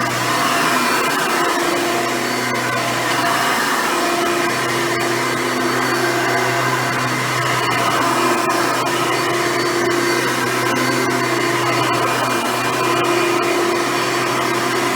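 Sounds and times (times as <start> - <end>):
vacuum cleaner running: 0.1 - 14.9.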